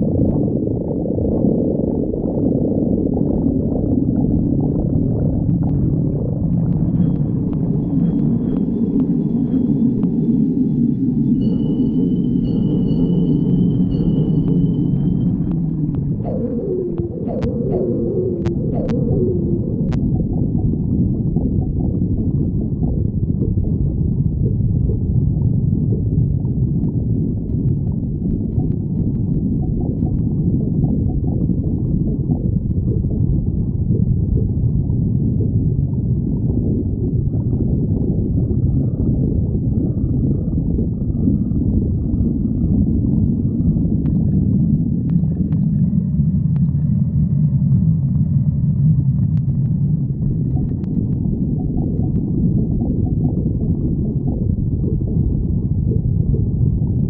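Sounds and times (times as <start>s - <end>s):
stomach growling: 0.0s - 10.6s, 13.9s - 57.0s.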